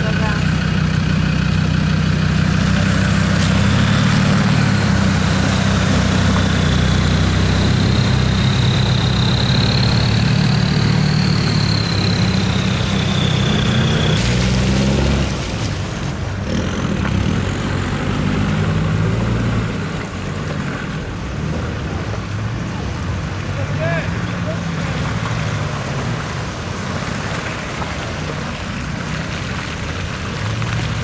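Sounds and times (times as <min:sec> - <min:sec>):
diesel engine running at low revs: 0:00.0 - 0:31.0.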